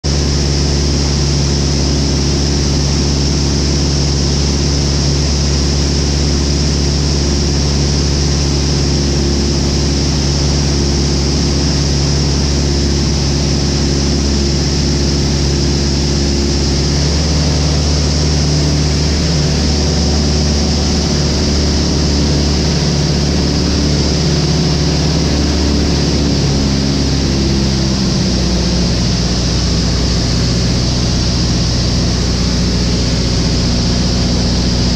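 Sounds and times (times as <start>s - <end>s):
aircraft engine and propeller drone: 0.0s - 34.9s.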